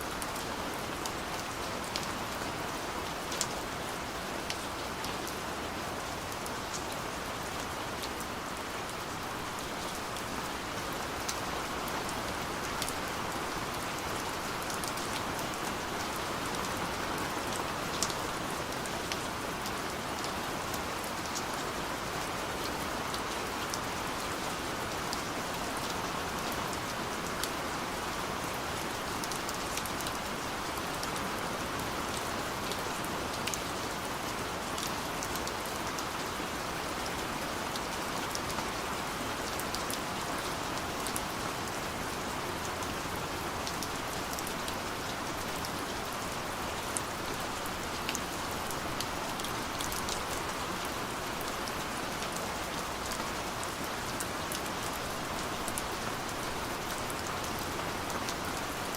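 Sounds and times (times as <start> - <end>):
steady rain hiss: 0.0 - 58.9.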